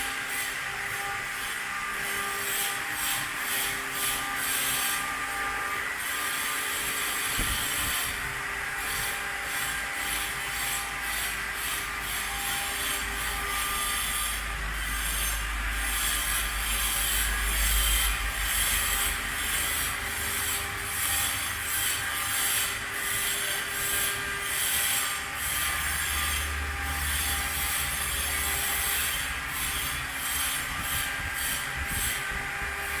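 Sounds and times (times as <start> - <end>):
engraving machine grinding: 0.0 - 33.0.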